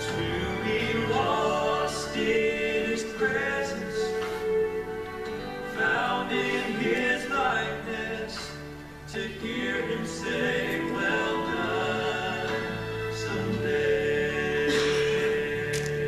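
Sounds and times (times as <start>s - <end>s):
congregation singing a hymn: 0.0s - 16.0s.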